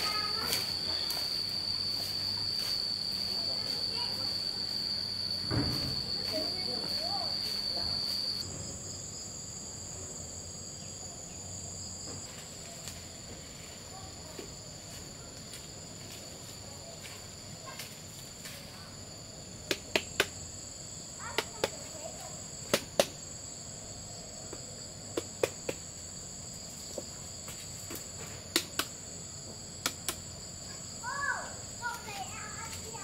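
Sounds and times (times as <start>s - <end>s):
insect chirring: 0.0s - 33.0s.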